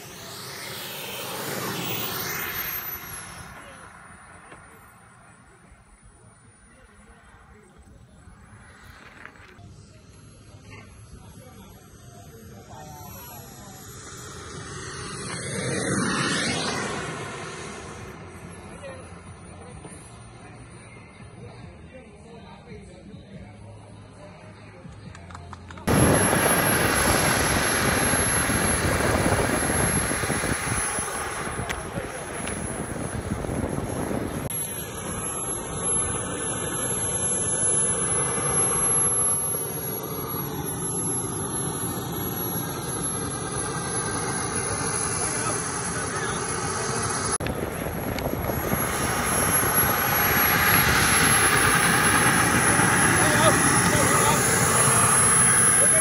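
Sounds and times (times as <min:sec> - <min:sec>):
exhaust rushing: 0:00.0 - 0:09.6, 0:11.0 - 0:19.5, 0:25.9 - 0:56.0
jet turbine roaring: 0:00.0 - 0:20.4, 0:25.8 - 0:56.0
high turbine whine: 0:00.0 - 0:23.1, 0:25.9 - 0:56.0.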